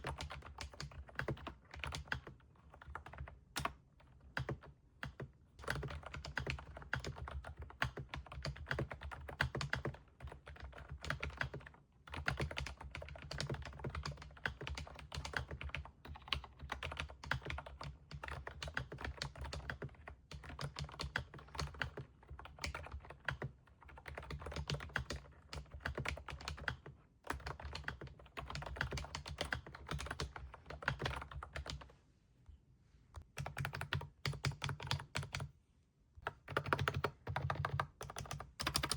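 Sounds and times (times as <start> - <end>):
mechanical keyboard typing: 0.0 - 31.8, 33.3 - 35.5, 36.2 - 38.9.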